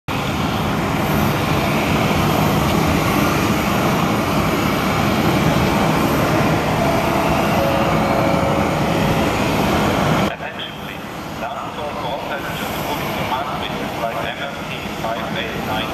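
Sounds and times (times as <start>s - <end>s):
jet engines roaring: 0.1s - 15.9s.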